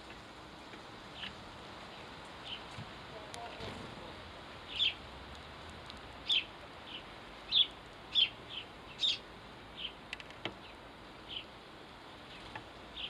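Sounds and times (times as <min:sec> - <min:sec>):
sparrows chirping: 0:00.1 - 0:05.1, 0:06.1 - 0:13.0.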